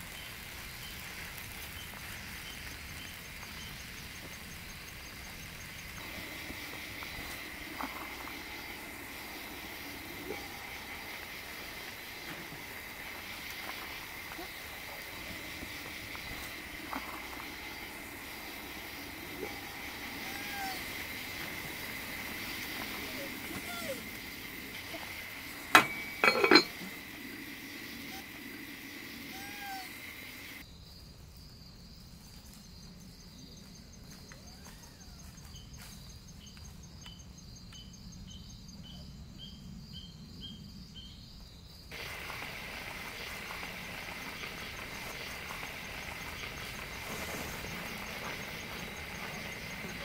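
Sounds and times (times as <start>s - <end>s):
insects chirping: 0.0s - 50.0s.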